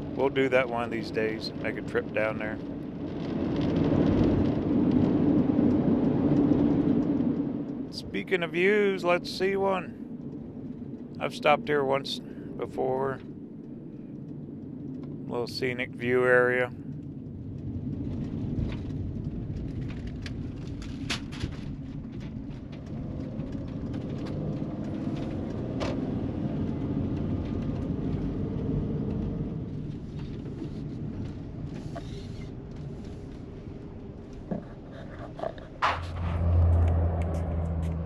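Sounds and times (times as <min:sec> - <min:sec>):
low vehicle rumble: 0:00.0 - 0:38.0.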